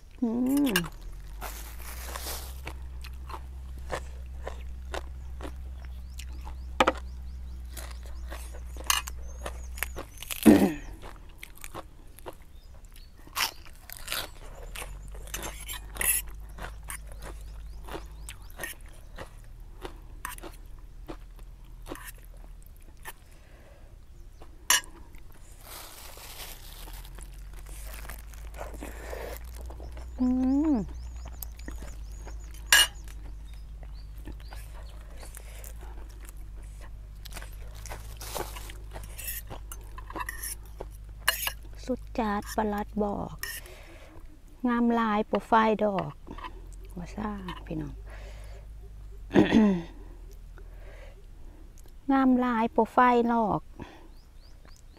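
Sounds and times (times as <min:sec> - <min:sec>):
person chewing crunchy food: 0:00.0 - 0:44.6.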